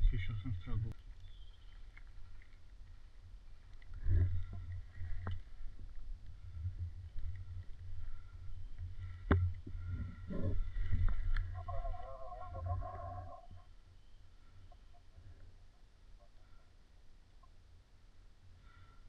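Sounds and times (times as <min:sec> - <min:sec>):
low steady rumbling: 0:00.0 - 0:19.0.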